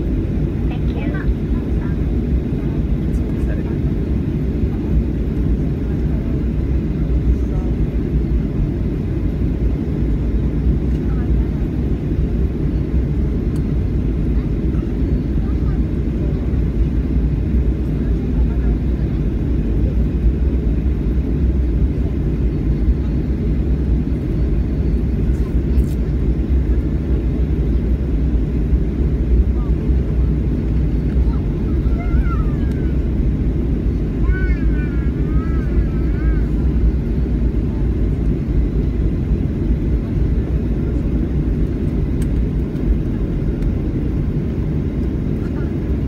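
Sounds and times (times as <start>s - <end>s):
airliner taxiing rumble: 0.0s - 46.0s
jet engine noise in cabin: 0.0s - 46.0s.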